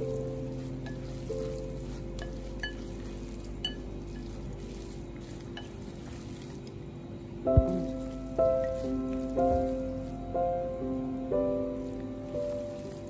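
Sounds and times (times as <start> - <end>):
wet noodles mixing in bowl: 0.0 - 7.1, 7.7 - 10.8, 11.7 - 13.0.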